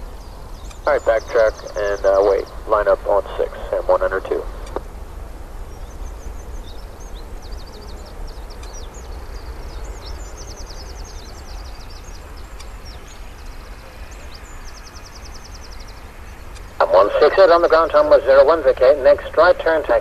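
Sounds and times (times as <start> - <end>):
distant jet rumble: 0.0 - 20.0
songbird chirping and trilling: 0.0 - 20.0.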